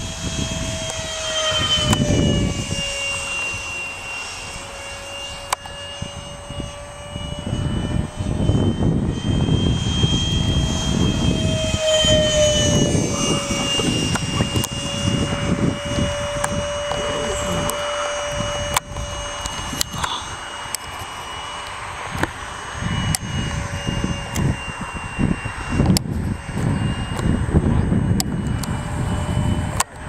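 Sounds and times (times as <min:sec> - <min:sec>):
model airplane motor whine: 0:00.0 - 0:30.0
wind buffeting microphone: 0:00.0 - 0:30.0.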